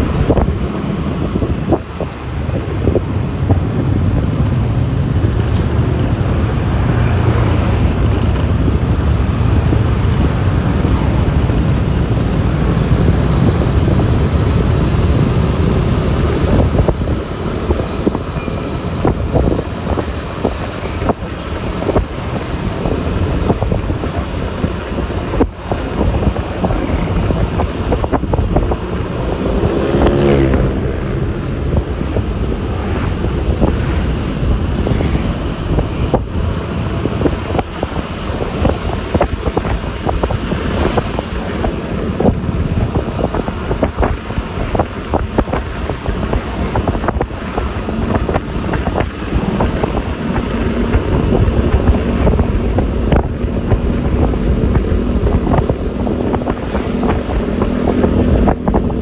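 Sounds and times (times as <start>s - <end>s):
passing vehicle engine: 0.0s - 59.0s
road noise: 0.0s - 59.0s
scooter engine running: 0.0s - 59.0s
wind buffeting microphone: 0.0s - 59.0s.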